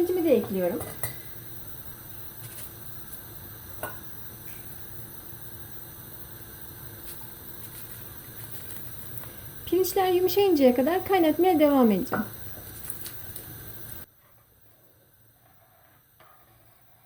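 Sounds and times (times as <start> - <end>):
pot simmering on stove: 0.0 - 17.0.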